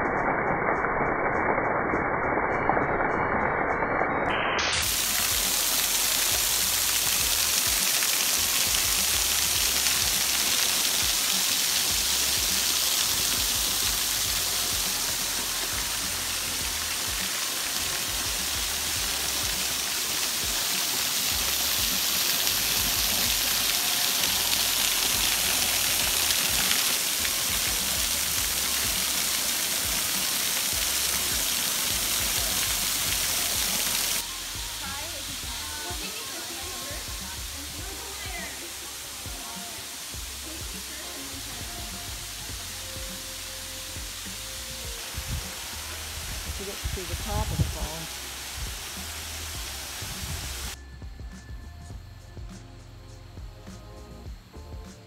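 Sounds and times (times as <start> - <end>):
waterfall rushing: 4.6 - 50.8.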